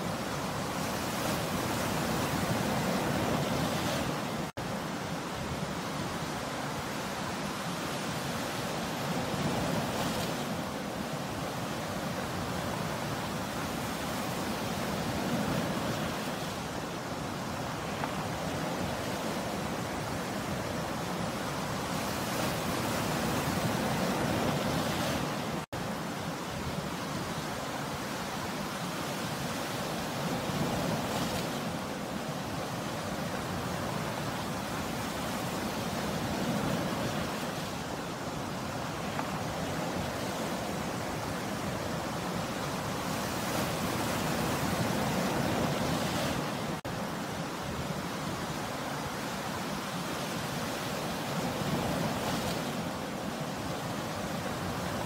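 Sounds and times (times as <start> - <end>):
sea surf breaking on shore: 0.0 - 55.0.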